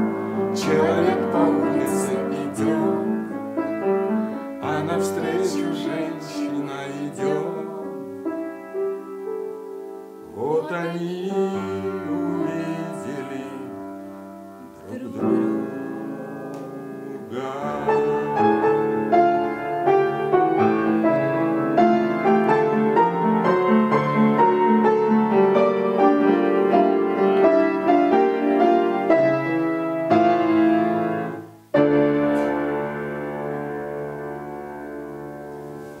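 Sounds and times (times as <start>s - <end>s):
solo piano: 0.0s - 36.0s.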